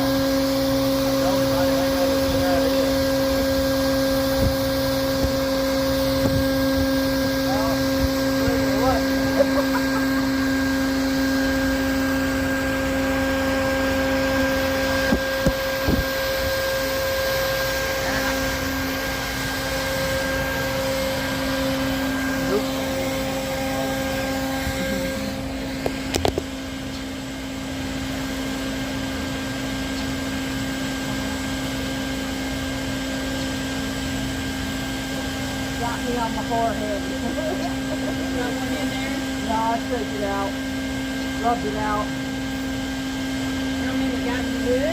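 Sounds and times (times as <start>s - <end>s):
vacuum humming: 0.0s - 44.9s.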